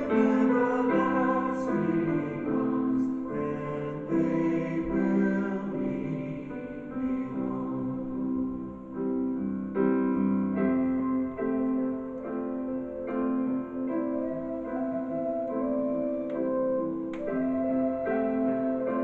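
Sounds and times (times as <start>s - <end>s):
piano playing slow hymn chords: 0.0s - 19.0s.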